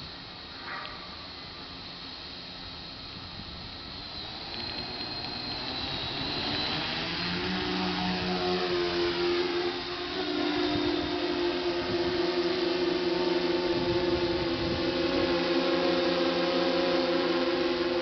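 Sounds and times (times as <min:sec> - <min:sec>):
drone motors whirring: 0:02.1 - 0:18.0.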